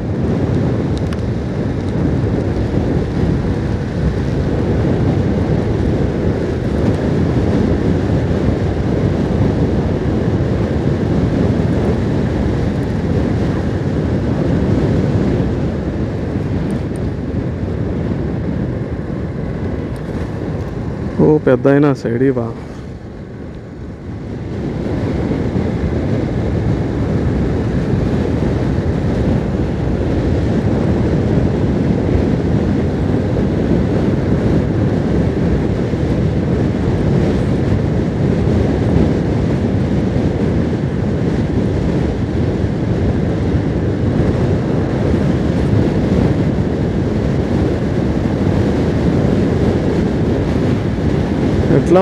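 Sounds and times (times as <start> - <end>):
road noise: 0.0 - 52.0
wind rush over microphone: 0.0 - 52.0.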